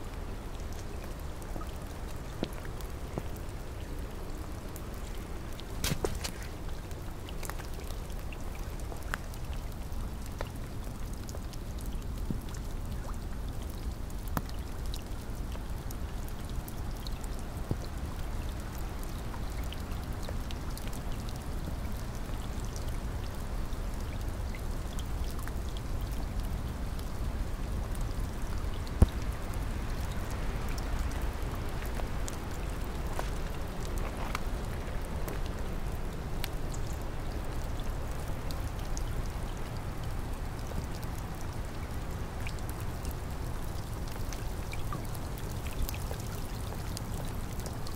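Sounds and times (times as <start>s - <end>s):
heavy rain: 0.0s - 47.9s
raindrops ticking: 0.1s - 47.9s.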